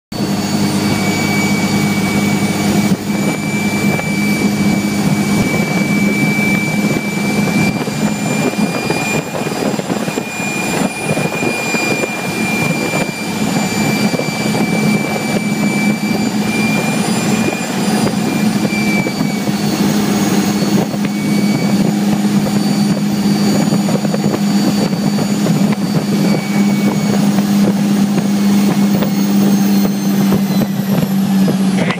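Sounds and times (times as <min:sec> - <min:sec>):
diesel engine deep drone: 0:00.1 - 0:31.9
turbocharger whistle: 0:00.1 - 0:31.9.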